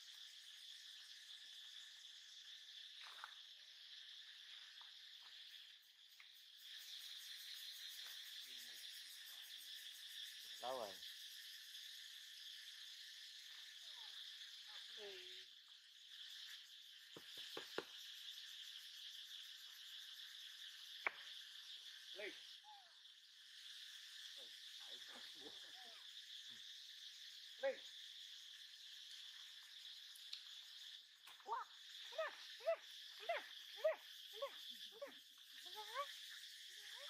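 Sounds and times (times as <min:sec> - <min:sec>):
high insect drone: 0:00.0 - 0:37.0.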